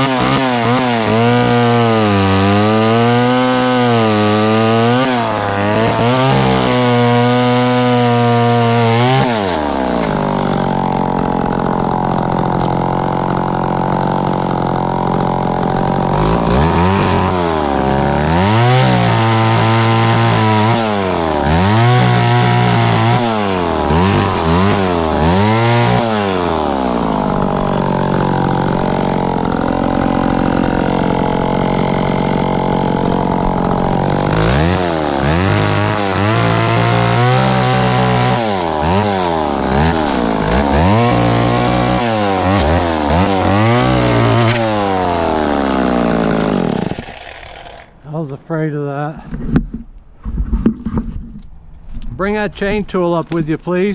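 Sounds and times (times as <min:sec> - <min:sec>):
chainsaw cutting wood: 0:00.0 - 0:48.3.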